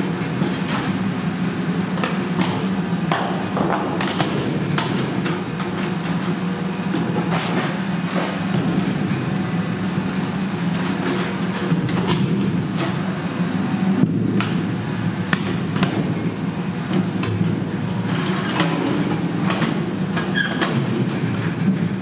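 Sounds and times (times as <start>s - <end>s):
excavator engine hum: 0.0s - 22.0s.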